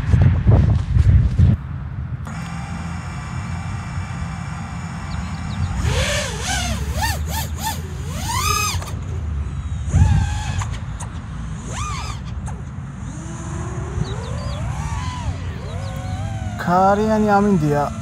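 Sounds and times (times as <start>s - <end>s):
drone motors whining: 2.2s - 18.0s.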